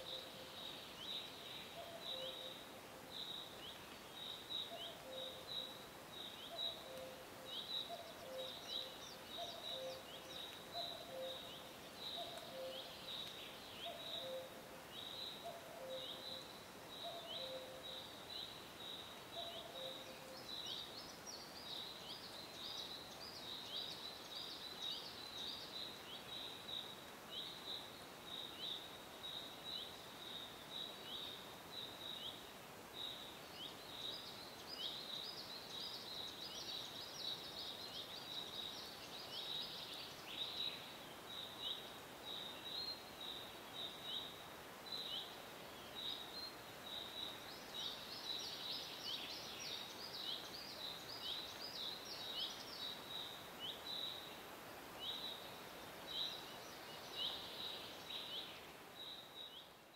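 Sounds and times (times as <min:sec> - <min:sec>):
soft background hiss: 0:00.0 - 0:59.9.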